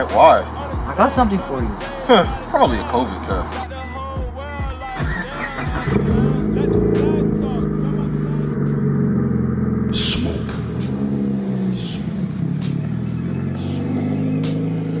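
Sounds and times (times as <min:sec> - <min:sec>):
car engine running at low speed: 0:00.0 - 0:15.0.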